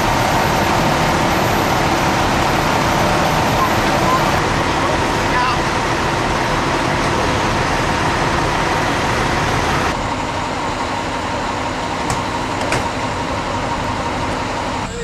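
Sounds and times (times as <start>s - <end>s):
fire truck engines running: 0.0s - 15.0s.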